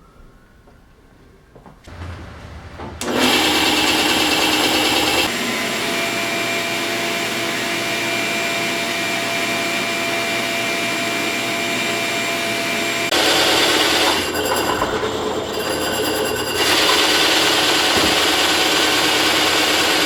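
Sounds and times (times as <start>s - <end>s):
power tool motor whine: 3.0s - 20.0s.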